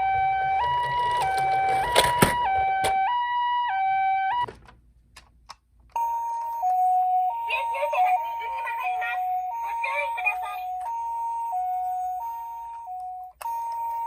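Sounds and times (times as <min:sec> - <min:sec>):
toy electronic hi-lo siren: 0:00.0 - 0:04.4, 0:06.0 - 0:14.0.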